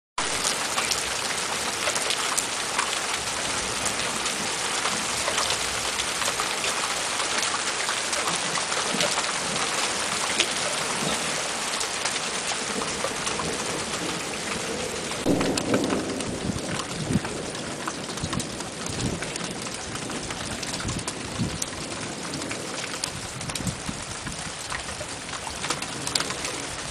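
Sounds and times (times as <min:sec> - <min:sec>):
heavy rain pattering: 0:00.2 - 0:26.9.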